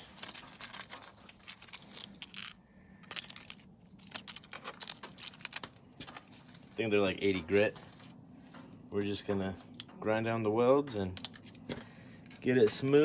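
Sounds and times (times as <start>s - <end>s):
small hard parts clicking and rattling: 0.0s - 9.1s, 10.8s - 13.0s.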